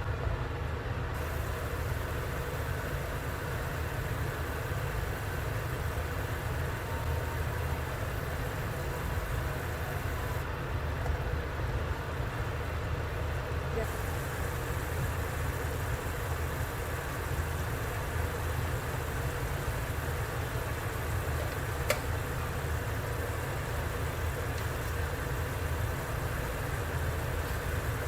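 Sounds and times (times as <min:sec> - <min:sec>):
faint hiss: 0:01.0 - 0:28.0.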